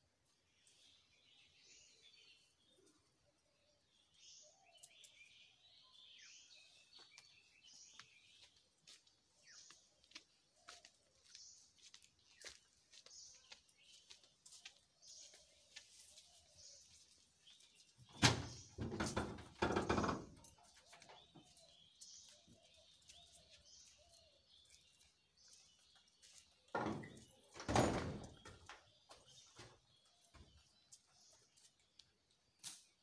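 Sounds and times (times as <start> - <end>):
faint birds chirping: 0.0 - 33.0.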